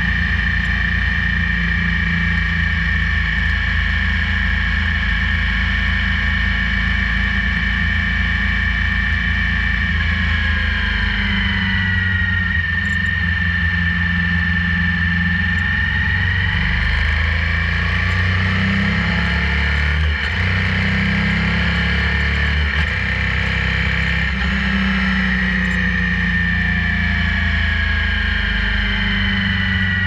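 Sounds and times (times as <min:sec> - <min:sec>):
motorcycle engine running: 0:00.0 - 0:30.0
steady high whine: 0:00.0 - 0:30.0.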